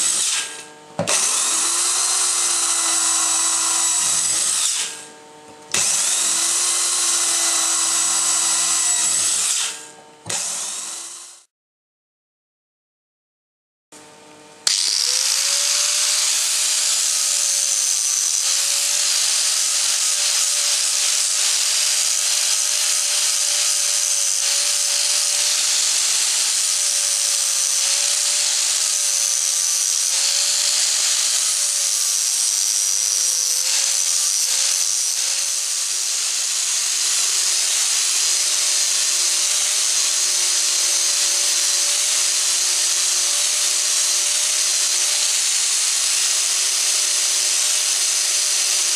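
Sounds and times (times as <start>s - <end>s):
angle grinder whine: 0.0s - 11.5s, 14.0s - 48.9s.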